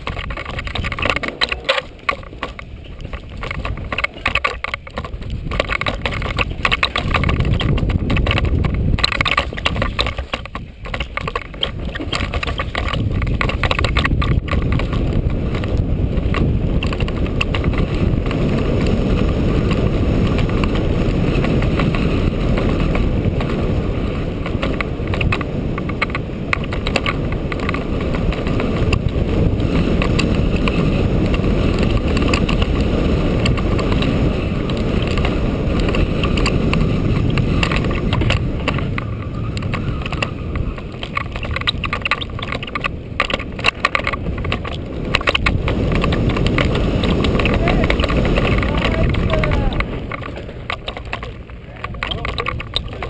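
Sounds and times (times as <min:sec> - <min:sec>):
bike chain and frame rattling: 0:00.0 - 0:53.0
tyres rolling on dirt: 0:00.0 - 0:53.0
wind rushing on microphone: 0:00.0 - 0:53.0.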